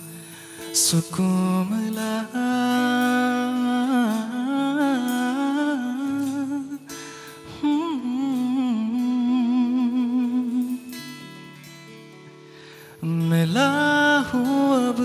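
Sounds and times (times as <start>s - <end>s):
soft acoustic guitar: 0.0s - 15.0s.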